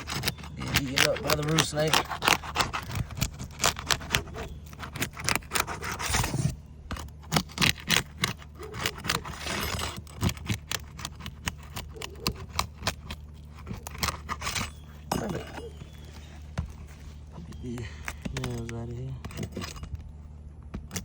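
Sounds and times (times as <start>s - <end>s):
metal tool scraping under shingles: 0.0s - 20.1s.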